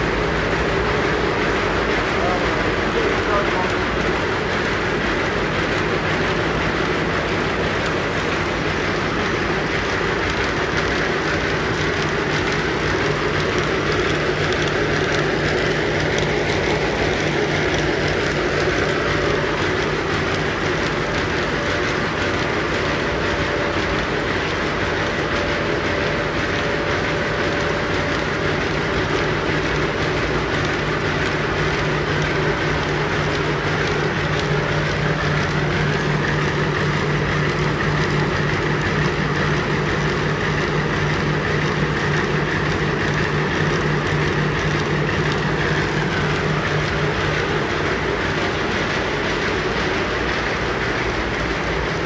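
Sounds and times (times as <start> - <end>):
low machinery hum: 0.0 - 52.0
plant machinery rushing: 0.0 - 52.0.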